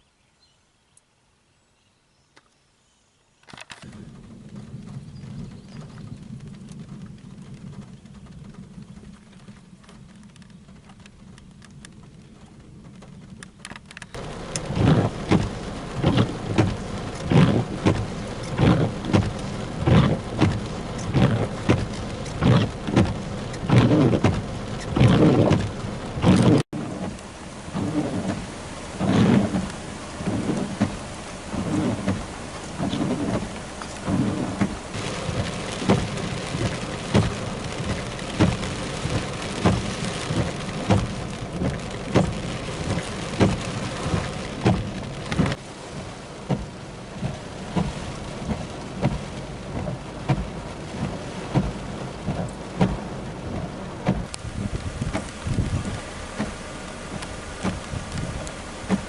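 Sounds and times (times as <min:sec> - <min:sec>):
heavy rain: 0:03.6 - 0:59.0.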